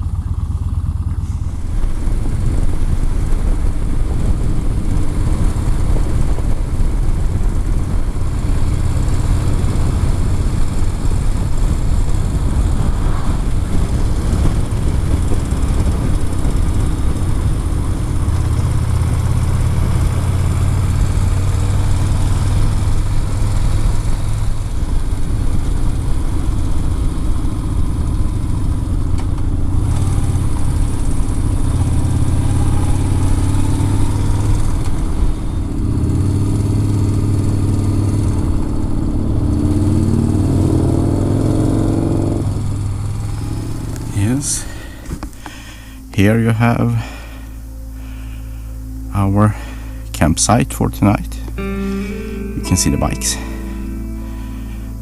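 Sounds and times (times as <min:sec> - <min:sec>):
motorcycle engine running: 0:00.0 - 0:46.1
wind and road noise: 0:00.0 - 0:55.0.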